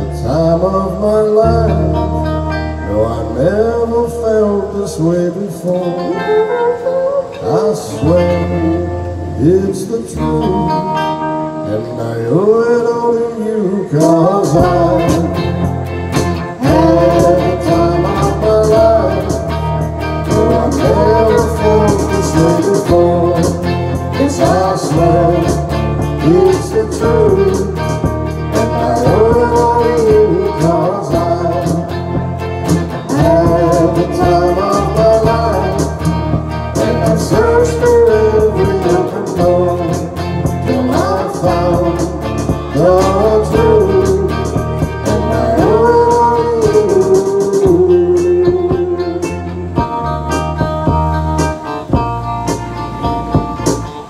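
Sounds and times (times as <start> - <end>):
live band playing pop song: 0.0 - 54.0.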